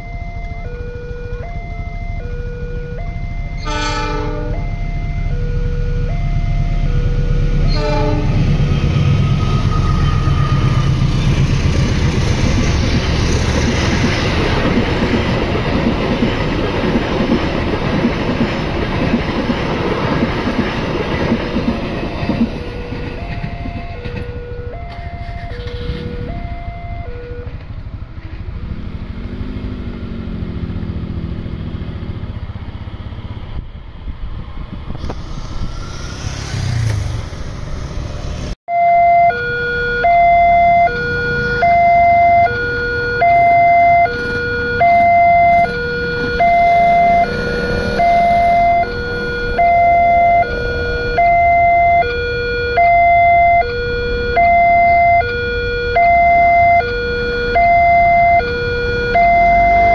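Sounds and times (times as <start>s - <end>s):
level crossing warning alarm: 0.0s - 28.0s, 38.7s - 59.9s
road traffic: 0.0s - 59.9s
passing vehicle engine: 0.7s - 38.6s, 40.0s - 59.9s.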